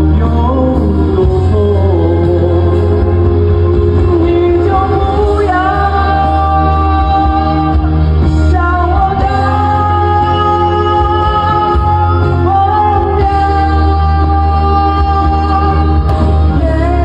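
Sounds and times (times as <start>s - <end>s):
backing track with bass: 0.0s - 17.0s
man singing a pop ballad: 0.0s - 17.0s.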